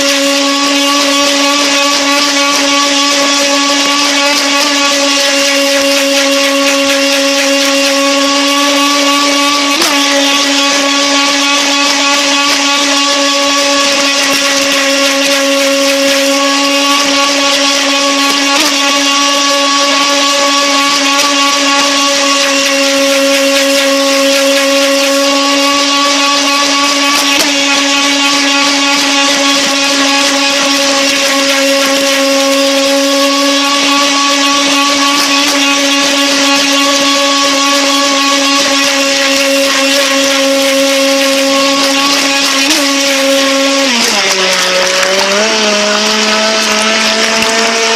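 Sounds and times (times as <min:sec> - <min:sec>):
electric motor whine: 0:00.0 - 0:47.9.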